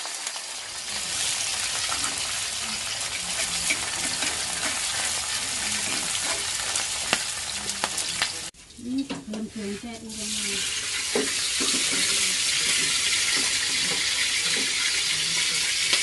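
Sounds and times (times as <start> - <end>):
prawns deep-frying in oil: 0.0 - 16.0.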